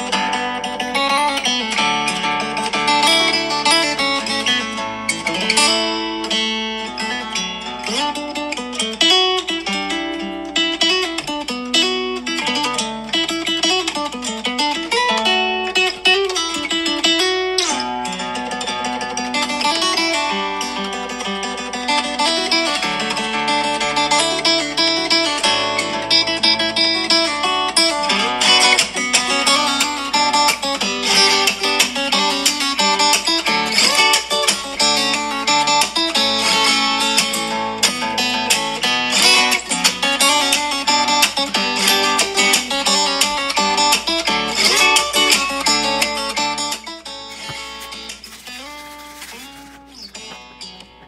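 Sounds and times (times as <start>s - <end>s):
plucked acoustic guitar music: 0.0s - 51.0s.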